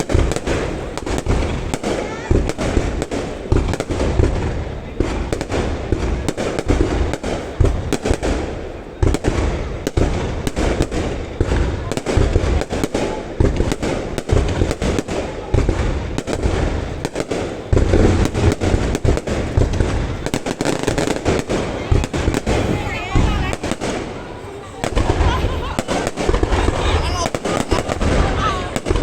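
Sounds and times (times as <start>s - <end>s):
fireworks booming and cracking: 0.0s - 29.0s.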